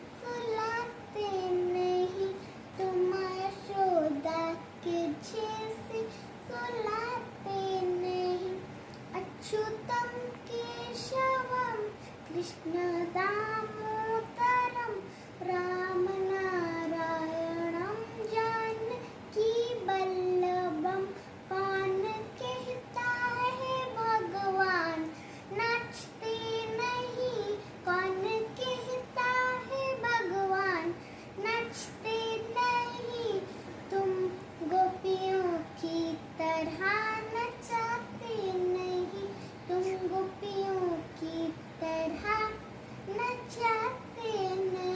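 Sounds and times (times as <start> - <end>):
girl singing unaccompanied: 0.0 - 44.9.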